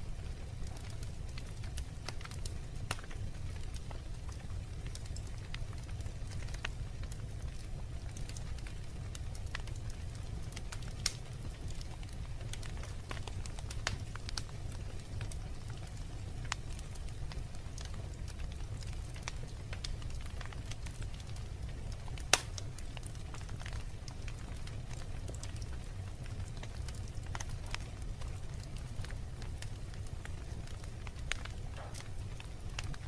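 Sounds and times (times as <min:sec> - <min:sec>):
fire crackling: 0:00.0 - 0:33.0
flames rumbling in fireplace: 0:00.0 - 0:33.0.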